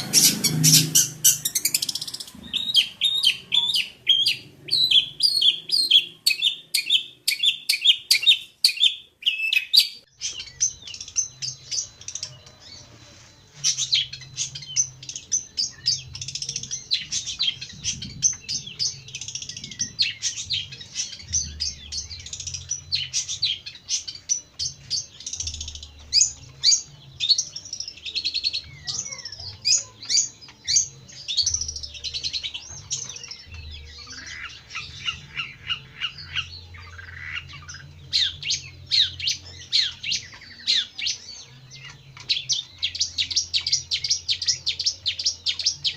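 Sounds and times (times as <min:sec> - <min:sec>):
bird chattering and warbling: 0:00.0 - 0:45.9.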